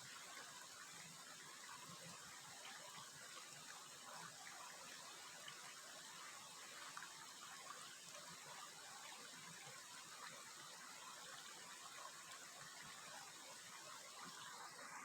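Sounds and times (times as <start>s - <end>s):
faint trickling water: 0.0s - 15.0s.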